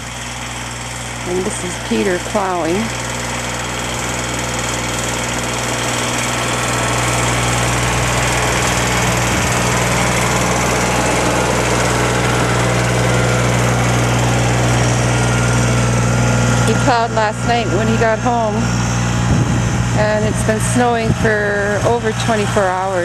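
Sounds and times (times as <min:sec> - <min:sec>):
snowplow engine humming: 0:00.0 - 0:23.0.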